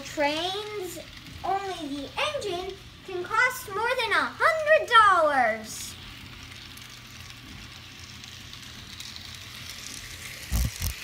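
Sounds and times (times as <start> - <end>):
model train running on track: 0.0 - 10.6.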